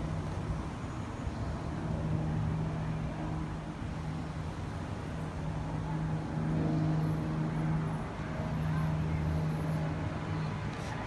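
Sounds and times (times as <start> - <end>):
aircraft piston engines droning: 0.0 - 11.0.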